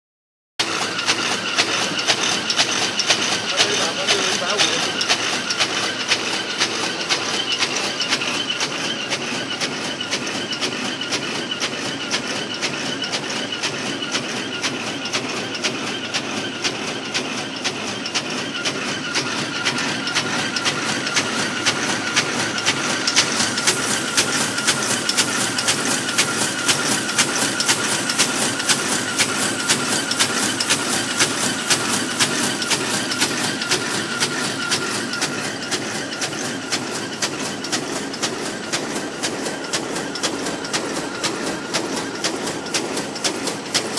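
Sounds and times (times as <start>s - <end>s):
machine mechanical clatter: 0.6s - 43.9s.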